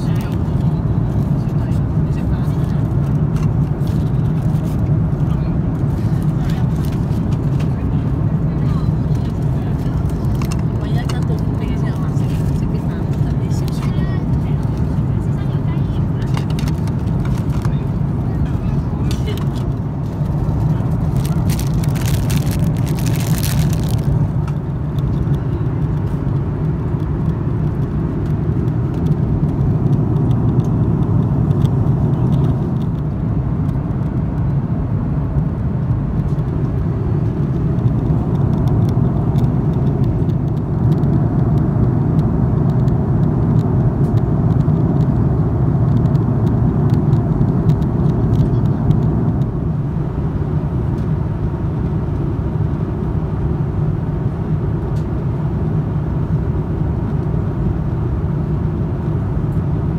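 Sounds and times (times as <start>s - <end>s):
airplane cabin roar: 0.0s - 59.9s.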